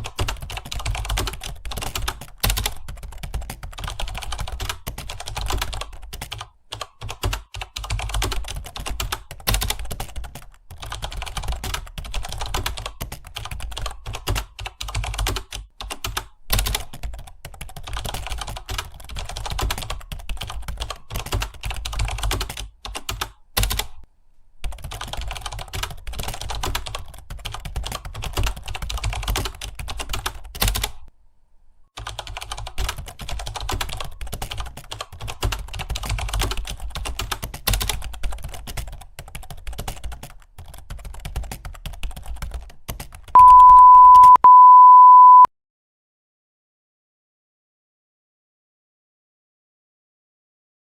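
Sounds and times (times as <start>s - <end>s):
fast keyboard typing: 0.0s - 24.0s, 24.6s - 31.1s, 32.0s - 45.4s.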